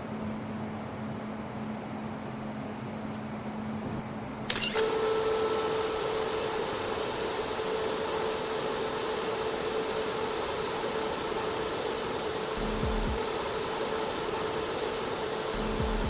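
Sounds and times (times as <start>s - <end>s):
ventilation fan humming: 0.0s - 16.0s.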